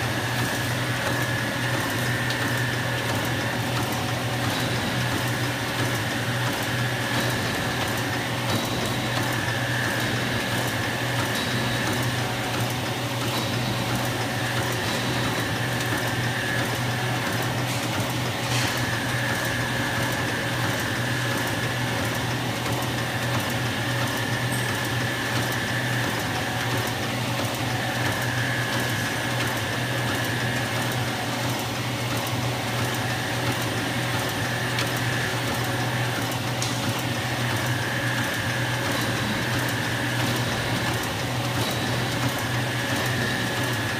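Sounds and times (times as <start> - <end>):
high-pitched machine whine: 0.0 - 22.4, 23.7 - 31.2, 32.6 - 43.9
rapid mechanical clatter: 0.1 - 43.9.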